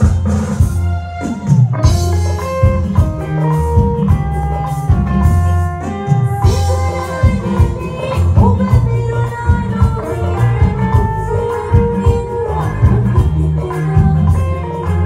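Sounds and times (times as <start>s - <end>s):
bass guitar: 0.0s - 15.0s
drum kit: 0.0s - 15.0s
electric guitars: 0.0s - 15.0s.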